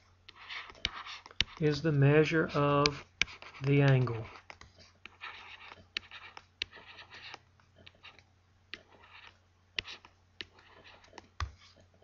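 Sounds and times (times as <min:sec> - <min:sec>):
stylus tapping and scratching: 0:00.0 - 0:12.0.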